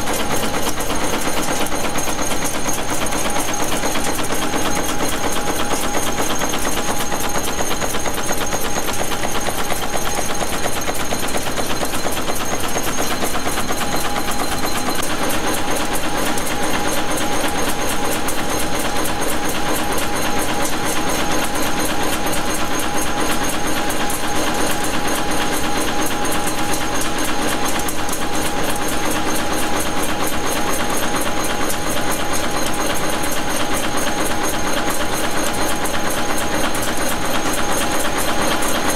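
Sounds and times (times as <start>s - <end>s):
nail making machine clatter: 0.0s - 38.9s.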